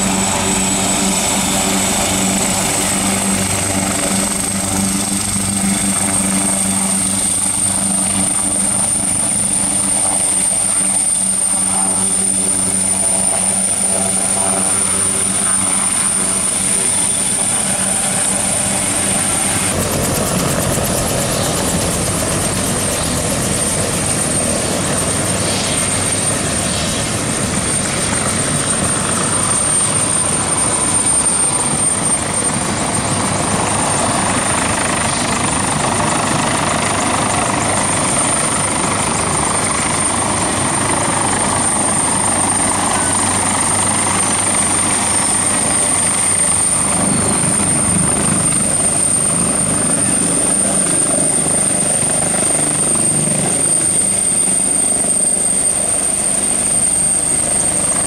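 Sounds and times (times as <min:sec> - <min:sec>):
helicopter rotor: 0:00.0 - 0:58.0
high turbine whine: 0:00.0 - 0:58.0.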